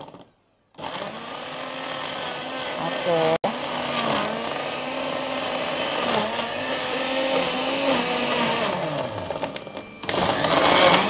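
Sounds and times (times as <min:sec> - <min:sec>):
kitchen appliance motor running: 0:00.8 - 0:11.0.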